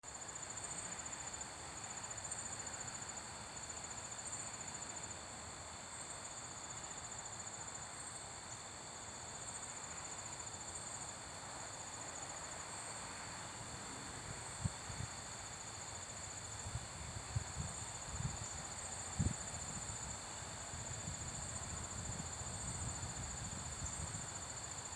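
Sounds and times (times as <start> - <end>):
crickets chirping: 0.1 - 24.9.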